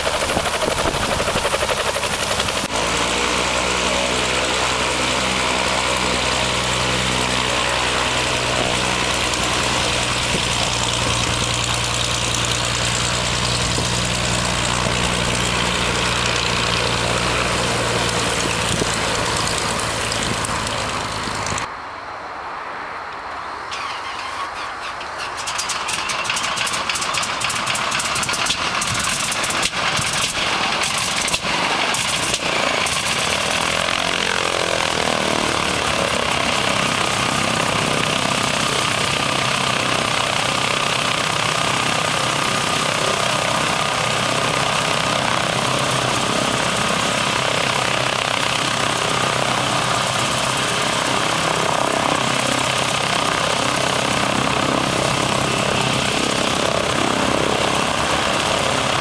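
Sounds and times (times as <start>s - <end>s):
radial aircraft engine starting: 0.0s - 21.7s, 23.7s - 59.0s.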